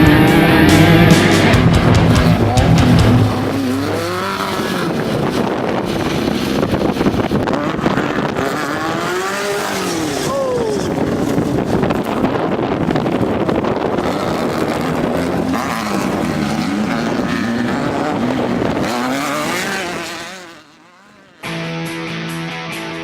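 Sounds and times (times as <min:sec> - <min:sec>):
wind noise: 0:00.0 - 0:20.5
buggy engine revving: 0:00.0 - 0:22.0
dirt noise: 0:00.0 - 0:22.5.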